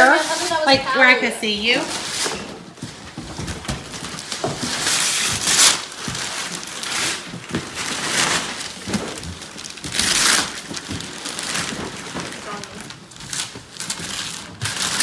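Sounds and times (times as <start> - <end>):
wrapping paper tearing: 0.0 - 0.7, 3.4 - 15.0
paper crinkling: 1.8 - 15.0.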